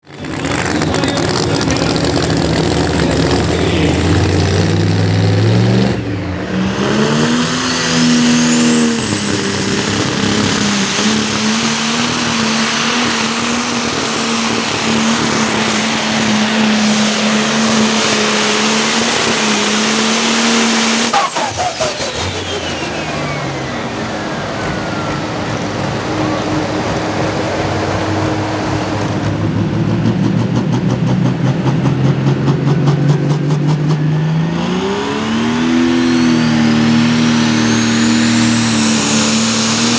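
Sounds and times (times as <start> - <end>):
turbo whine: 0.0 - 32.1, 34.7 - 39.9
diesel engine at full throttle: 0.0 - 39.9.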